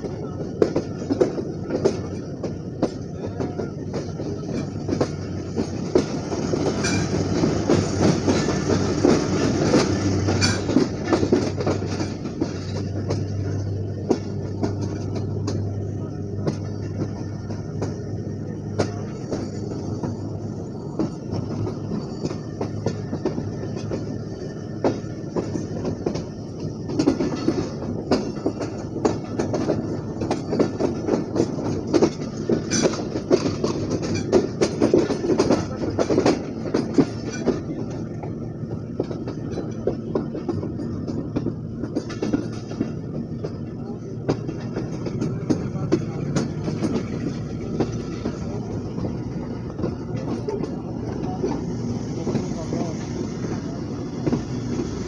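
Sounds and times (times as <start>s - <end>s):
locomotive engine hum: 0.0s - 55.0s
wheels clicking over rail joints: 0.0s - 55.0s.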